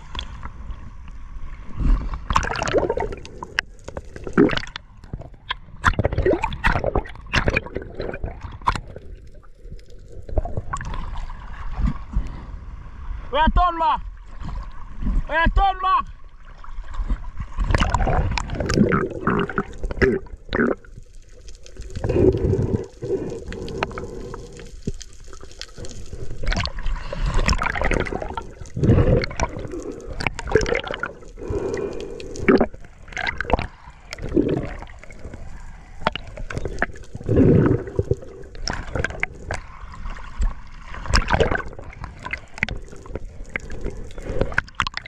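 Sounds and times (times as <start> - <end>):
water sloshing and gurgling: 0.0 - 45.0.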